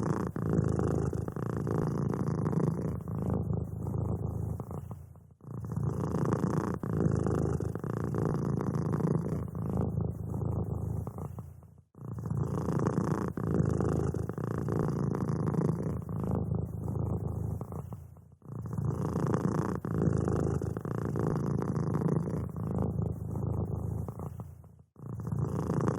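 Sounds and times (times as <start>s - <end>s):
cat purring: 0.0s - 25.9s.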